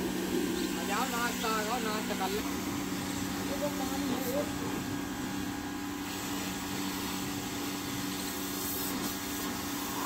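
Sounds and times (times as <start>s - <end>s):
motor humming steadily: 0.0s - 10.0s.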